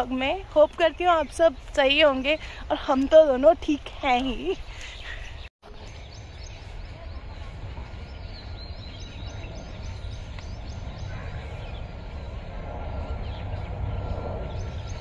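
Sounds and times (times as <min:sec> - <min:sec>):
faint birds chirping: 0:00.0 - 0:15.0
wind rumble on microphone: 0:00.0 - 0:15.0.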